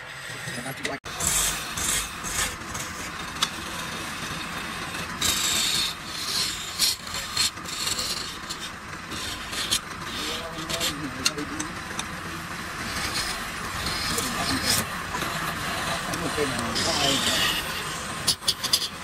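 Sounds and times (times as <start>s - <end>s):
lathe tool scraping wood: 0.0s - 19.0s.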